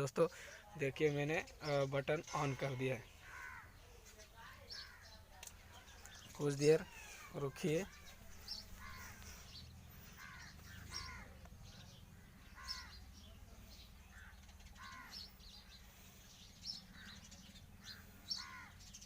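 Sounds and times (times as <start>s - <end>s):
faint bird calls: 2.2s - 19.0s.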